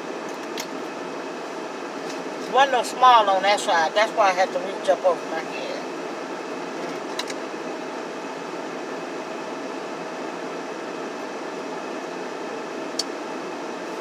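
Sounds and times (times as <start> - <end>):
car heater fan whirring: 0.0 - 14.0.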